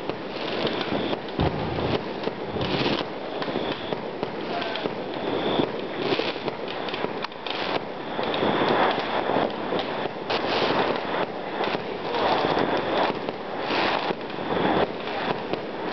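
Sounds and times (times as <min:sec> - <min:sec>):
fireworks crackling: 0:00.0 - 0:15.9
loud firework bang: 0:00.6 - 0:15.6.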